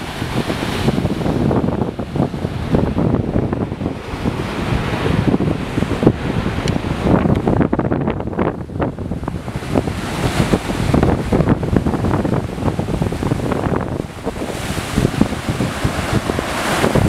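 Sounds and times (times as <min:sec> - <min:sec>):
sea waves breaking on rock: 0:00.0 - 0:17.0
wind buffeting microphone: 0:00.0 - 0:17.0.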